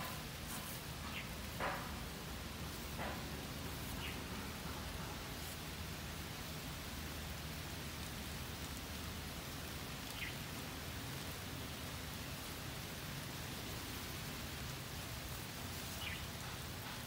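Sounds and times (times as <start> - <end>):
water pattering on grass and leaves: 0.0 - 17.0.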